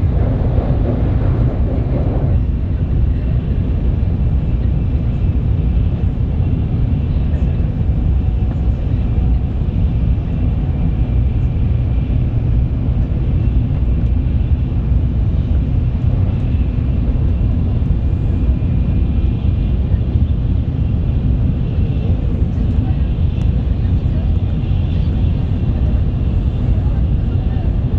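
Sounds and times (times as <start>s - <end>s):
train low rumble: 0.0s - 27.9s.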